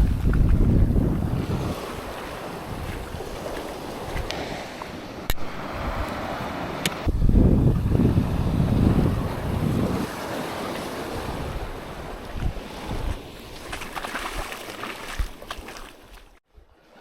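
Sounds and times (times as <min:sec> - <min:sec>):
wind buffeting microphone: 0:00.0 - 0:15.6
surf washing on sand: 0:00.0 - 0:16.1.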